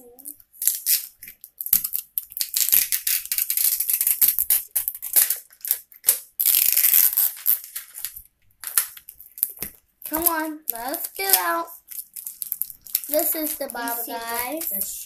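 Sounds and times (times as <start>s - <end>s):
plastic wrapping crackling and tearing: 0.5s - 15.0s.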